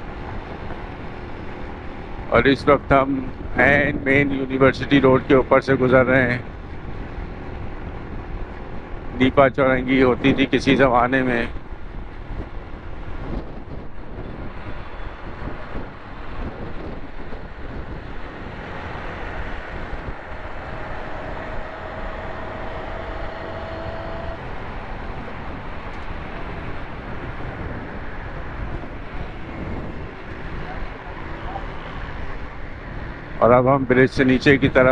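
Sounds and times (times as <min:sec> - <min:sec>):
motorbike road noise: 0:00.0 - 0:34.9
wind on microphone: 0:00.0 - 0:34.9.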